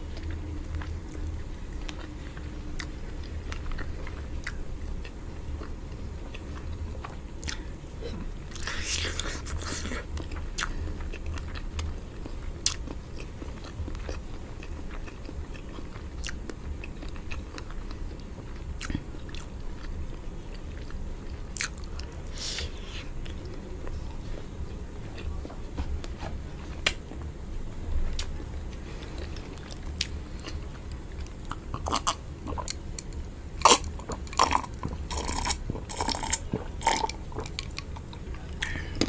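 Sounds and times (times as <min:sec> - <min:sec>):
person chewing food: 0:00.0 - 0:27.3, 0:28.0 - 0:39.0
steady low hum: 0:00.0 - 0:39.0.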